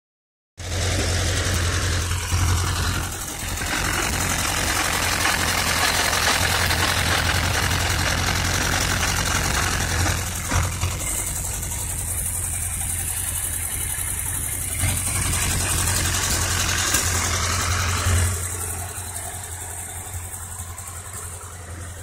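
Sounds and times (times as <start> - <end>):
car engine idling: 0.6 - 22.0.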